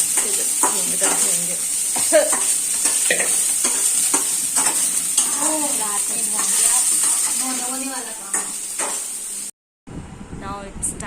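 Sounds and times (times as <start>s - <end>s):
spatula scraping and tapping pan: 0.0s - 9.2s
food sizzling in a pan: 0.0s - 9.6s.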